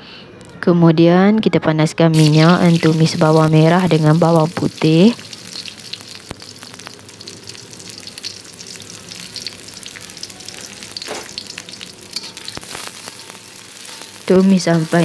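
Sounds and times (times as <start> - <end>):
shallots and garlic sizzling in oil: 2.1 - 15.0.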